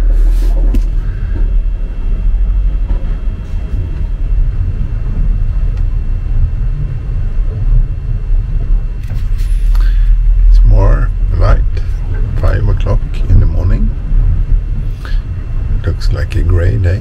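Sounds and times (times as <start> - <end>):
low rumble inside yacht: 0.0 - 17.0.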